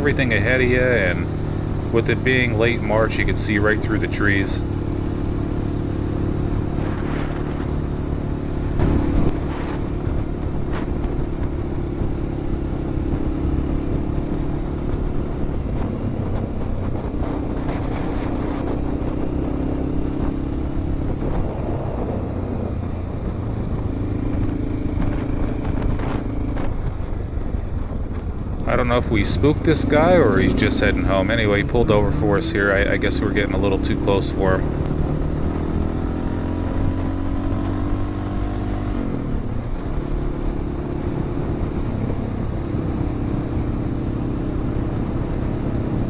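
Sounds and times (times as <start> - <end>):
motorcycle engine running: 0.0 - 46.0
wind and road noise: 0.0 - 46.0.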